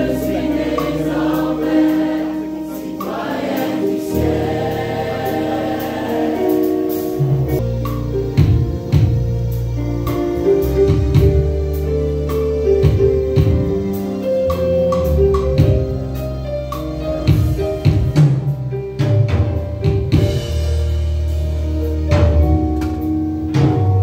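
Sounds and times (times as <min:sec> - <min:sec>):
bass notes: 0:00.0 - 0:24.0
keyboard chords: 0:00.0 - 0:24.0
steady drum beat: 0:00.0 - 0:24.0.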